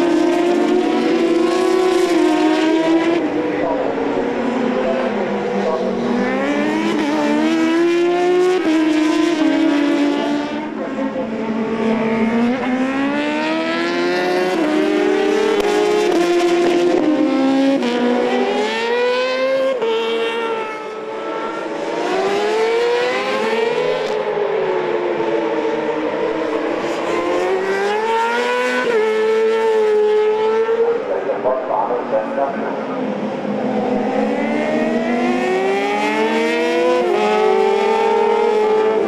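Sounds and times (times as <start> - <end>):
racing motorcycle engines revving: 0.0 - 39.0.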